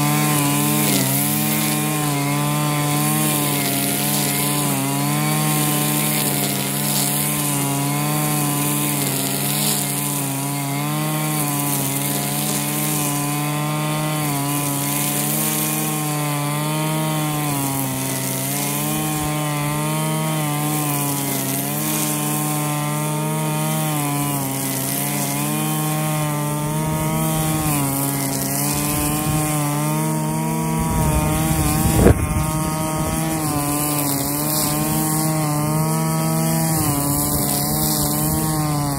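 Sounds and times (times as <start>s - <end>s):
brushcutter engine at high revs: 0.0s - 38.9s
string trimmer cutting grass: 0.0s - 38.9s.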